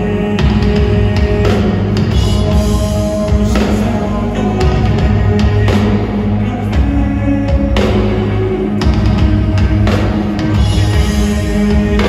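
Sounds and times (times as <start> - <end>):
live metal band playing: 0.0 - 12.0.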